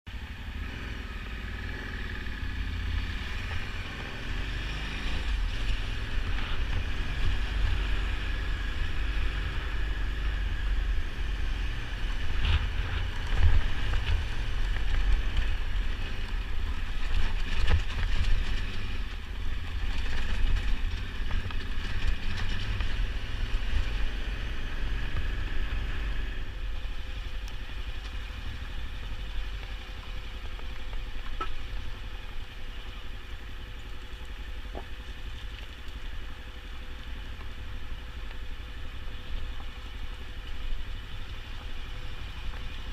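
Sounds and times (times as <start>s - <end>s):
motorcycle engine rumbling: 0.1s - 42.9s.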